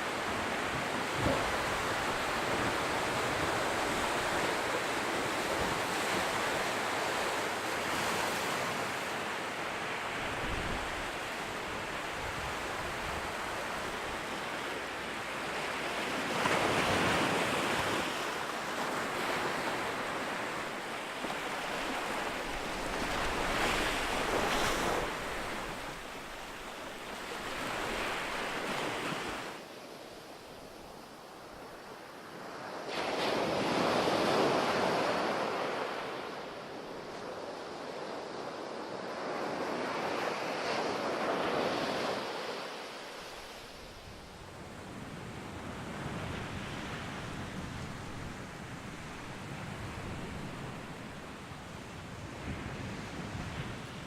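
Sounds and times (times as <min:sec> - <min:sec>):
ocean surf on beach: 0:00.0 - 0:54.0.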